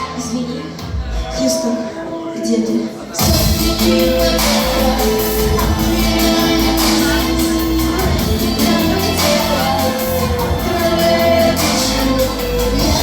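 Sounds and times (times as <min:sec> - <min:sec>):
live band playing: 0:00.7 - 0:13.0
person singing: 0:01.6 - 0:13.0.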